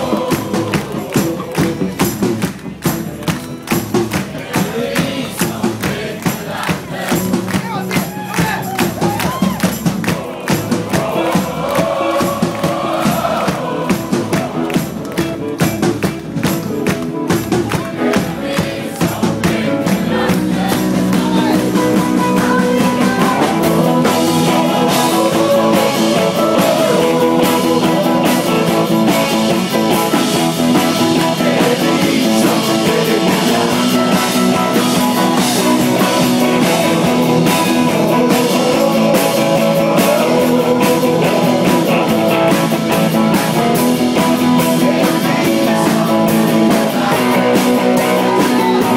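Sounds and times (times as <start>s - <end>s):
several voices singing together: 0.0s - 2.1s, 4.1s - 15.4s, 17.6s - 48.9s
live rock band playing: 0.0s - 48.9s.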